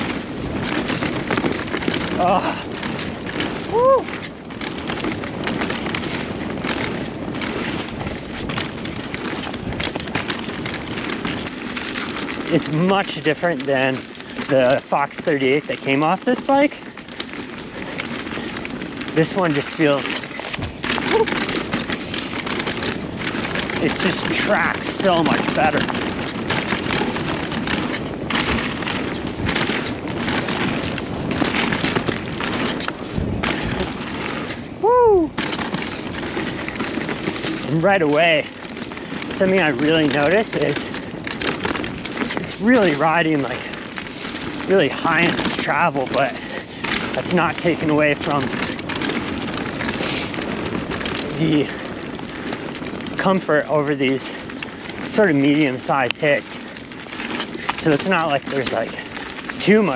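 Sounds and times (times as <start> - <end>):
bike knocking and rattling: 0.0 - 59.9
bike tyres rolling over rocks: 0.0 - 59.9
wind buffeting microphone: 0.0 - 59.9.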